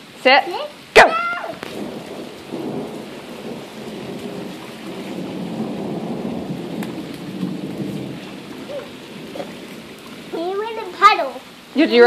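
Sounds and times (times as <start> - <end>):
rain on pavement and grass: 0.0 - 12.0.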